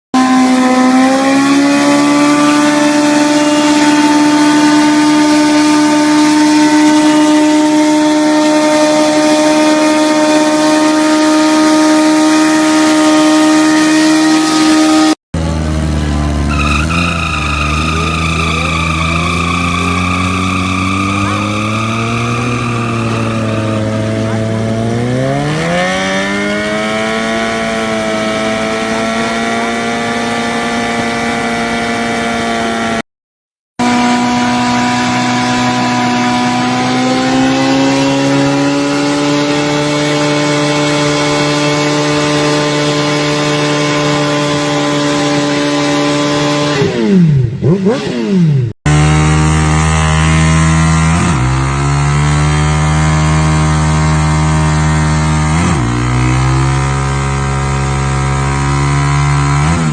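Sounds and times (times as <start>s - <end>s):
motorcycle engines revving high: 0.1s - 33.0s, 33.8s - 59.9s.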